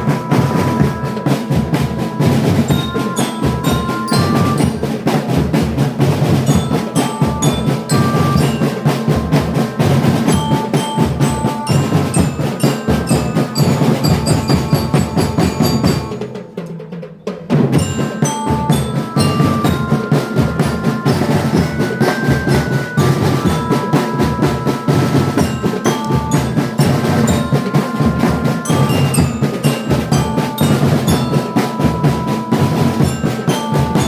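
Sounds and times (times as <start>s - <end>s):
glockenspiel melody: 0.0s - 16.6s, 17.2s - 34.0s
snare and bass drums: 0.0s - 34.0s.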